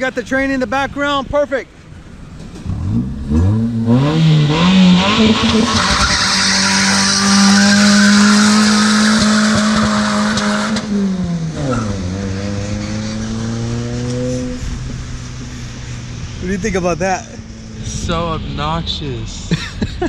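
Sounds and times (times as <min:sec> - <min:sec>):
car engine accelerating hard: 0:02.4 - 0:19.4.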